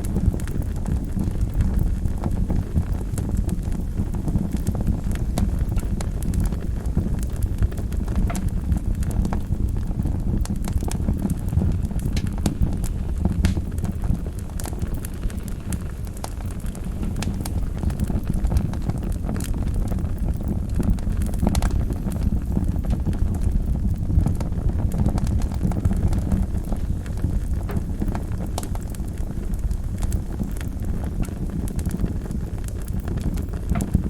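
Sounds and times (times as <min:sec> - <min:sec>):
fire flames rushing: 0:00.0 - 0:34.0
logs crackling and popping: 0:00.0 - 0:34.0.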